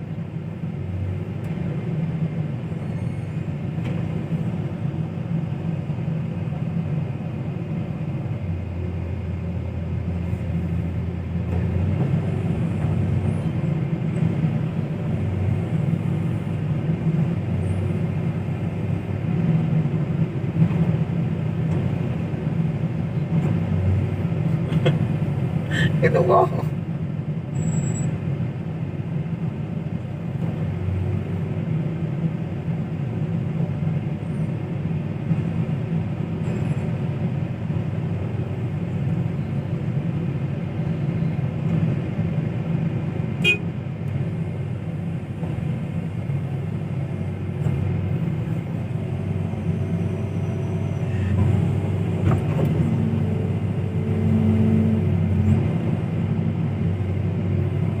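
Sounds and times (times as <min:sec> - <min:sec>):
heavy engine rumbling: 0:00.0 - 0:58.0.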